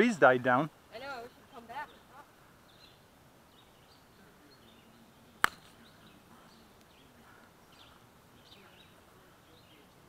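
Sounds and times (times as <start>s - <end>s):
faint bird chirps: 1.1s - 10.0s.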